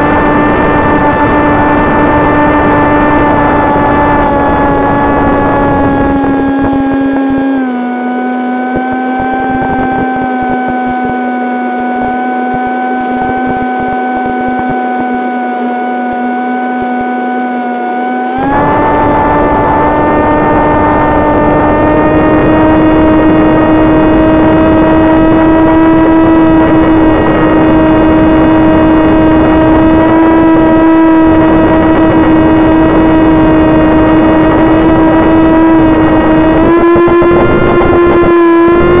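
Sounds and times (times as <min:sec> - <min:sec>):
electric motor whining hum: 0:00.0 - 0:39.0.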